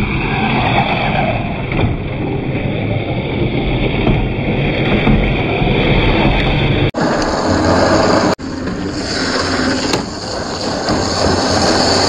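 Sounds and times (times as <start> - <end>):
electric motor and gears whirring: 0.0 - 12.0.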